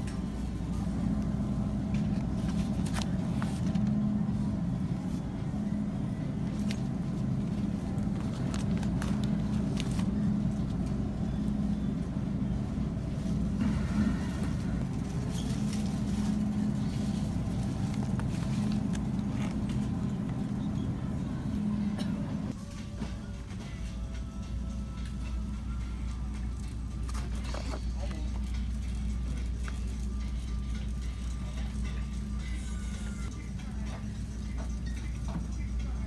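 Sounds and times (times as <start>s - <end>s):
faint shoppers' voices: 0.0s - 24.0s, 24.6s - 36.0s
refrigerated display cases humming: 0.0s - 36.0s.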